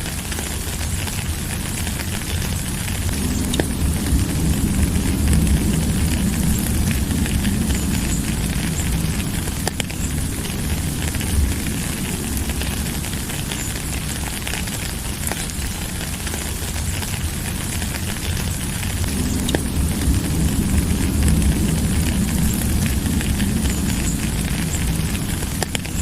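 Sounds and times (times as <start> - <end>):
low rumble: 0.0 - 26.0
steady rain hiss: 0.0 - 26.0.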